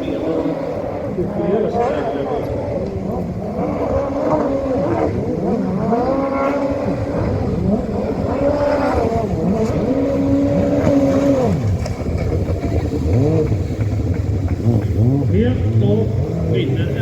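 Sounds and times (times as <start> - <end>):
personal watercraft engines racing: 0.0 - 17.0.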